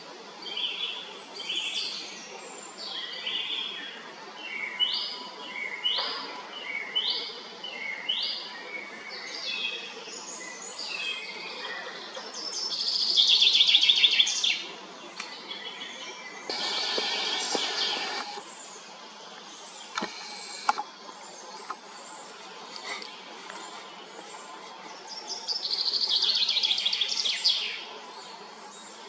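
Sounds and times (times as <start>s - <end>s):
songbirds singing: 0.4s - 29.0s.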